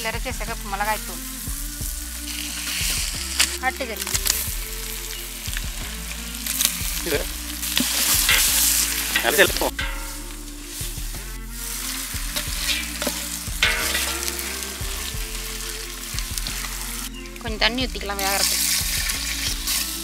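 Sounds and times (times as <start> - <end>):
meat sizzling in hot oil: 0.9 - 17.4, 18.4 - 20.0.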